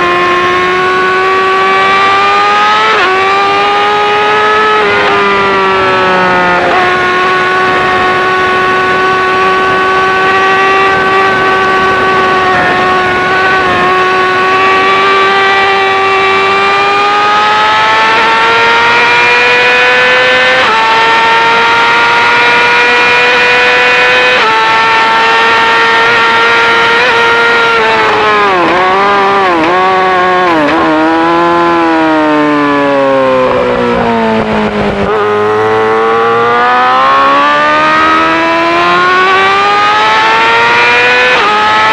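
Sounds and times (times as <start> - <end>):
motorcycle engine at high revs: 0.0 - 41.9.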